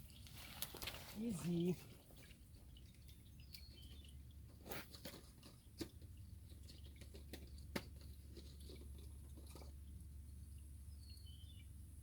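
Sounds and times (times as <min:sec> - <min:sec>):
low steady hum: 0:01.5 - 0:12.0.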